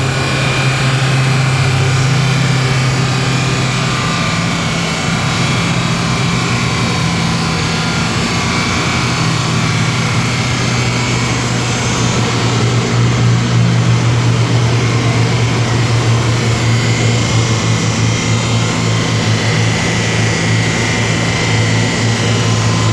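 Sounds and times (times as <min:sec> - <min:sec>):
car engine droning: 0:00.0 - 0:22.9.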